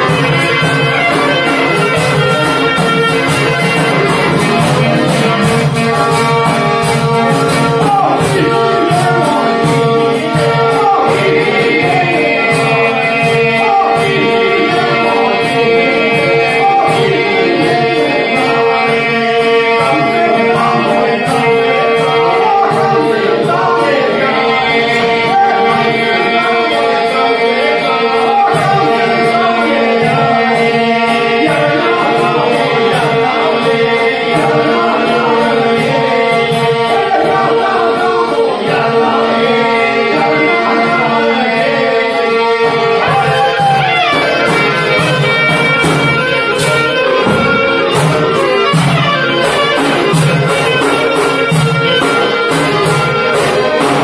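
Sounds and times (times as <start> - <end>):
accordion: 0.0 - 54.0
frame drum with jingles: 0.0 - 54.0
men singing: 0.0 - 54.0.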